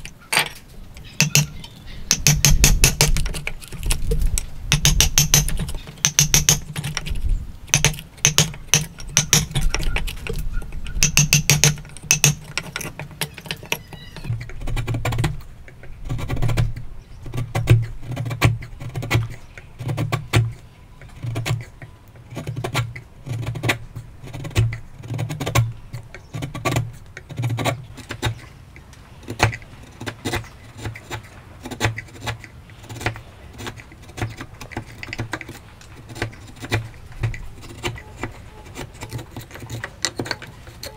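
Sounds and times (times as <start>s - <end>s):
chisel cutting wood: 0.0s - 28.6s, 29.2s - 40.9s.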